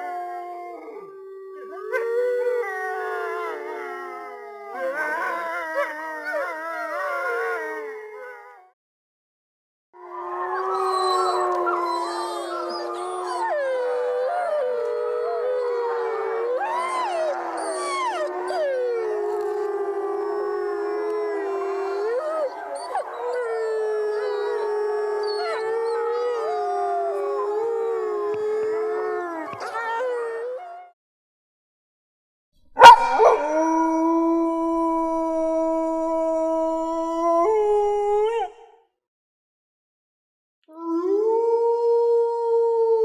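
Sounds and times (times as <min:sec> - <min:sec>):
wolves howling in chorus: 0:00.0 - 0:08.7, 0:10.0 - 0:30.9, 0:32.8 - 0:38.7.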